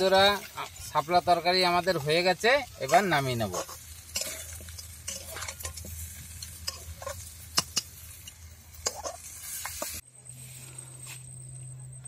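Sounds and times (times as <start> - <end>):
metal spatula scraping wok: 0.0 - 10.6
light sizzle: 0.0 - 12.0.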